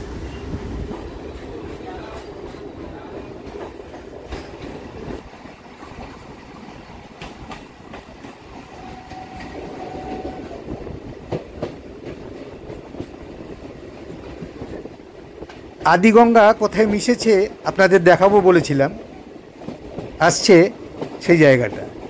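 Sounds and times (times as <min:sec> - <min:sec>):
train rumbling on track: 0:00.0 - 0:22.0
wheels clacking over rail joints: 0:00.2 - 0:22.0.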